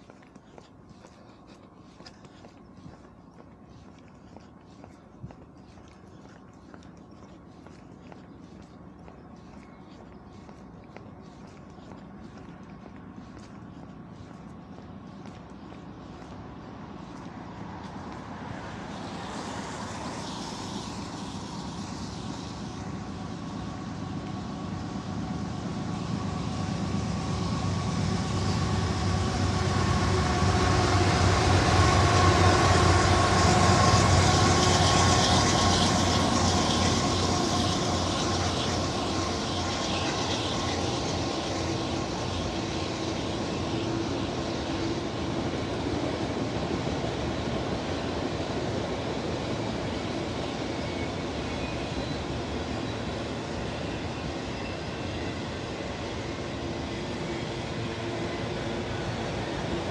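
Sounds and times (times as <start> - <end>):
diesel locomotives droning: 0.0 - 59.9.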